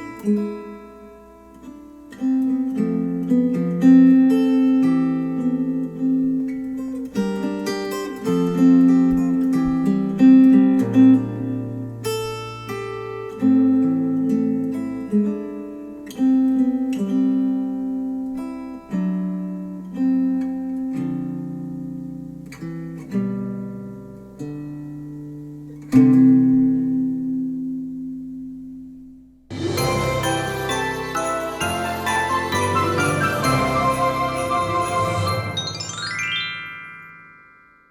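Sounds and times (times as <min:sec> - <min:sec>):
acoustic guitar music: 0:00.0 - 0:37.9.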